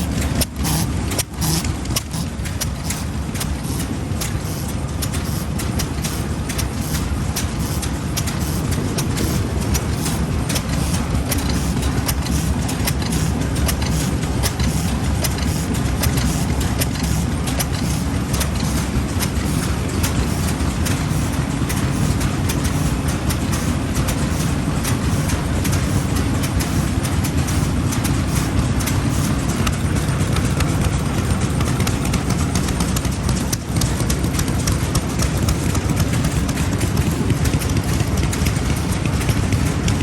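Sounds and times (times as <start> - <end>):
stationary engines running: 0.0 - 40.0.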